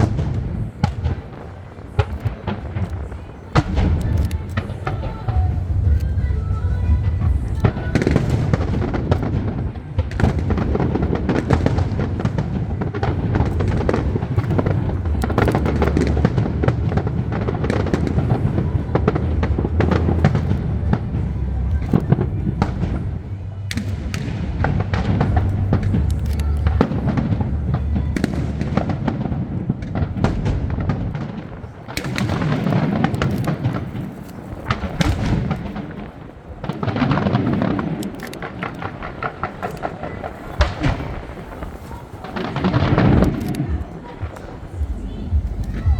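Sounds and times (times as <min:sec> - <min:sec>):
deep rumble of booms: 0:00.0 - 0:45.9
fireworks bangs and crackles: 0:00.0 - 0:45.9.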